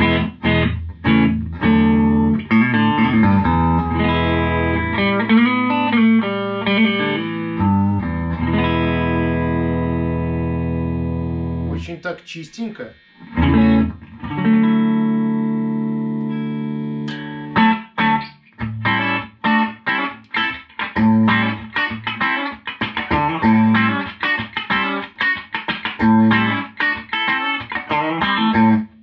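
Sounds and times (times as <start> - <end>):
clean electric guitar: 0.0 - 11.9, 12.9 - 29.0.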